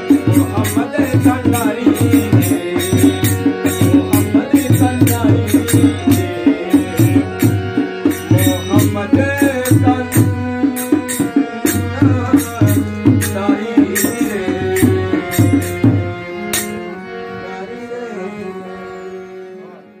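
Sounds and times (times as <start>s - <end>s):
harmonium: 0.0s - 20.0s.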